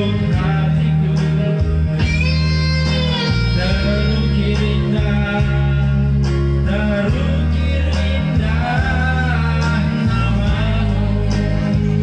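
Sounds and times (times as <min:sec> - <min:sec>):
amplified instrumental accompaniment: 0:00.0 - 0:12.0
man singing into microphone: 0:00.0 - 0:12.0.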